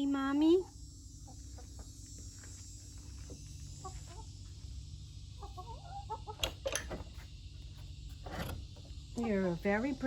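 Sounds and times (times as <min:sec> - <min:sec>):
hens clucking: 0:01.1 - 0:09.9.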